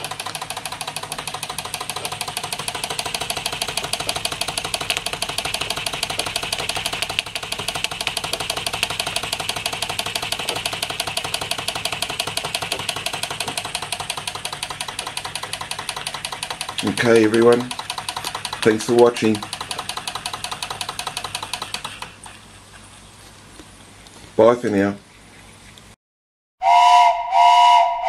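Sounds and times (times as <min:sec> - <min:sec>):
toy steam engine running: 0:00.0 - 0:22.5.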